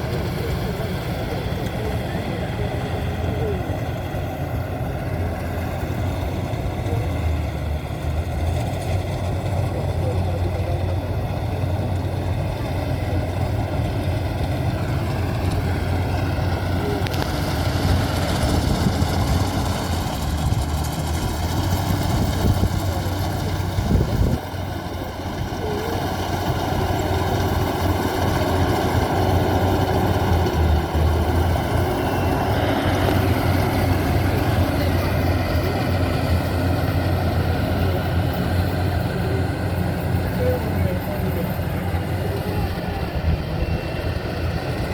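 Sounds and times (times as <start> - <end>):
combine harvester engine hum: 0.0 - 44.9.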